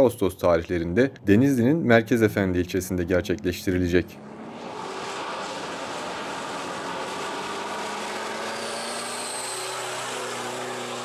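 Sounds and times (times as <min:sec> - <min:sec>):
race car engine drone: 0:02.1 - 0:11.0.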